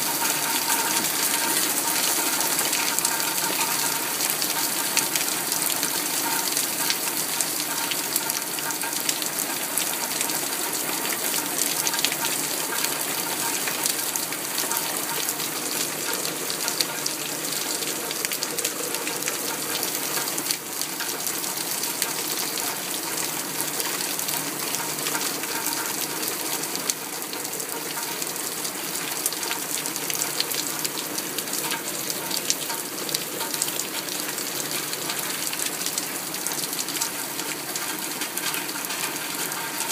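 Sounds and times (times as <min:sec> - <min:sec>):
heavy rain on a lake: 0:00.0 - 0:39.9.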